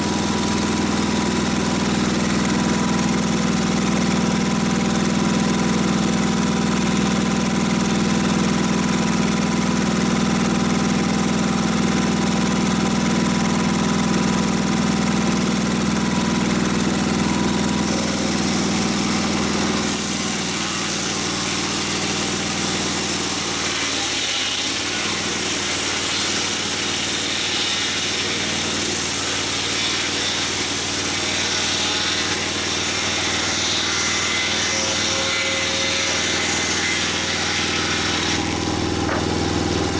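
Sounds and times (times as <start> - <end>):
sawmill engine milling log: 0.0 - 39.9.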